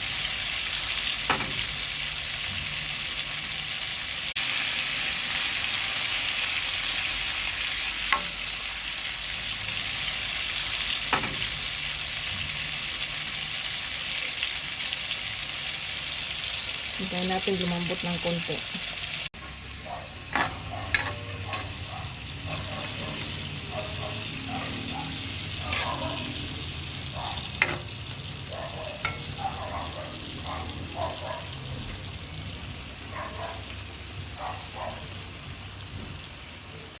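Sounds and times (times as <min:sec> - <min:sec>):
food sizzling in hot oil: 0:00.0 - 0:37.0.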